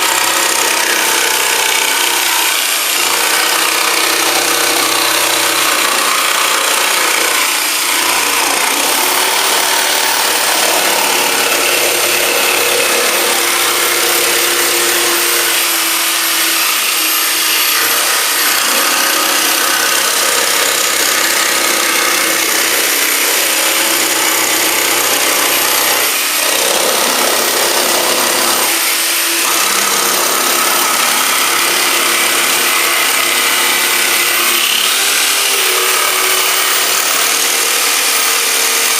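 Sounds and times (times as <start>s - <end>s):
jigsaw cutting plywood: 0.0s - 38.9s.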